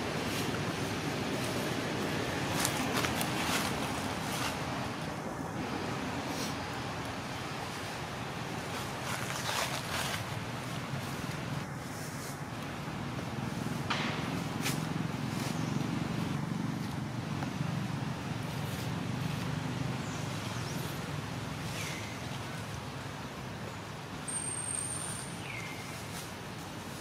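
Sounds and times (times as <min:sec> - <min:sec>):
low outdoor rumble: 0:00.0 - 0:24.2.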